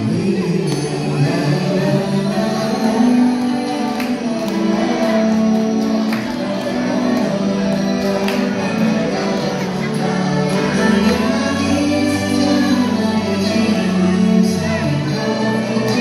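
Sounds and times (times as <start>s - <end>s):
choir singing a hymn: 1.1s - 16.0s.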